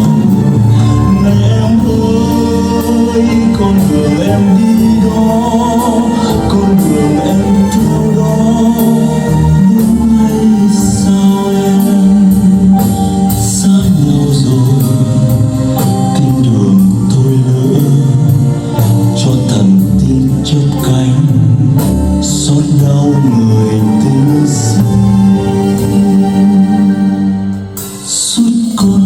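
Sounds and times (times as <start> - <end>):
slow song over speakers: 0.0 - 29.0.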